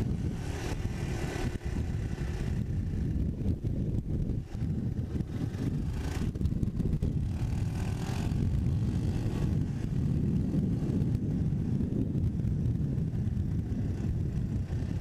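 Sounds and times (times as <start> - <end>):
three-wheeler engine running: 0.0 - 15.0
wind noise on microphone: 0.0 - 15.0.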